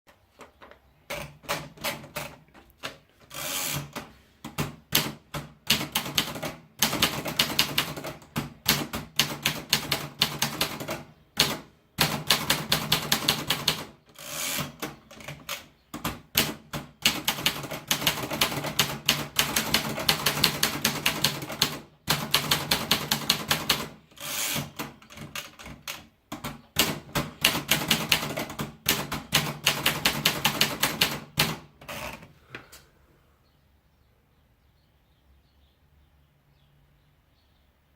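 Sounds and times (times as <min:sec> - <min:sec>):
typewriter keys striking: 0:01.1 - 0:32.1.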